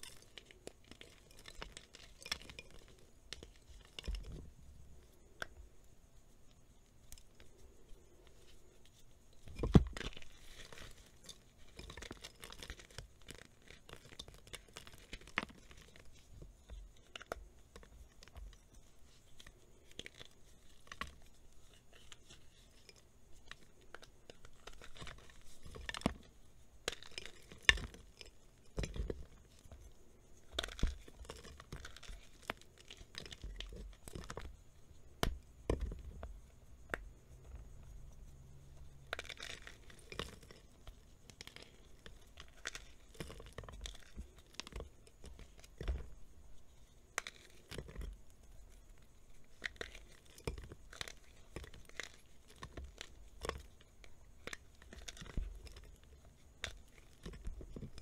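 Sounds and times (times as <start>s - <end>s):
chalk blocks cracking and crunching: 0.0s - 5.6s, 7.0s - 37.9s, 38.8s - 58.0s.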